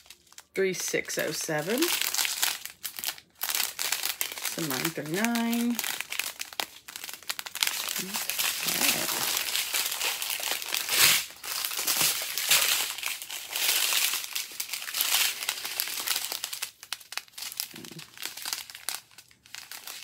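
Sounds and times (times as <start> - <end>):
small plastic bags crinkling: 0.0 - 20.0.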